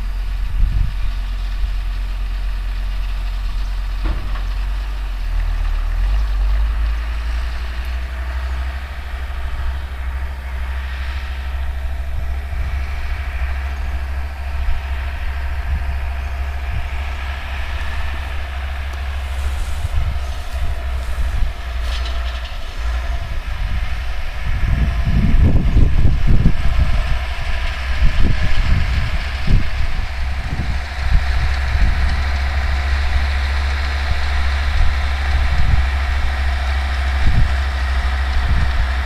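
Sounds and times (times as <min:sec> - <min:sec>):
baler mechanical noise: 0:00.0 - 0:39.0
tractor diesel engine rumble: 0:00.0 - 0:39.0.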